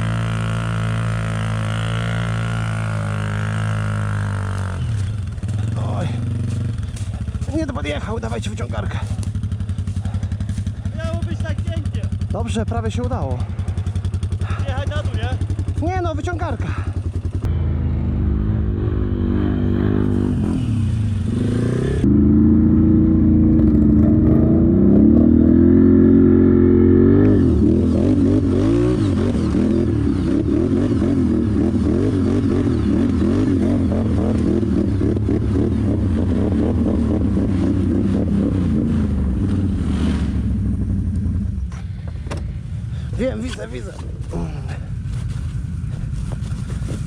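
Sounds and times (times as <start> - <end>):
atv engines revving: 0.0 - 47.0.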